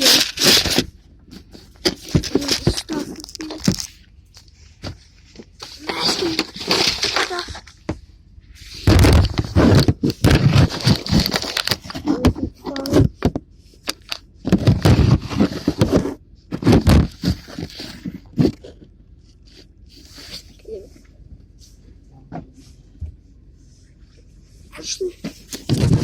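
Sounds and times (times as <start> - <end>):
clattering handling noise: 0.0 - 23.2, 25.2 - 26.0.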